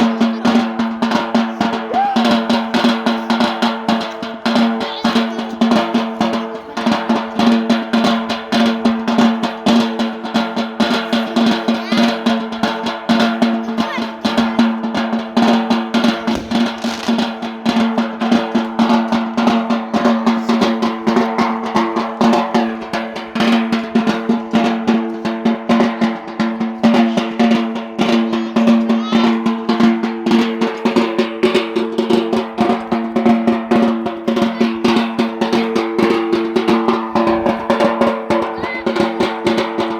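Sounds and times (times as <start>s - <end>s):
fast rolling drumming: 0.0s - 39.9s.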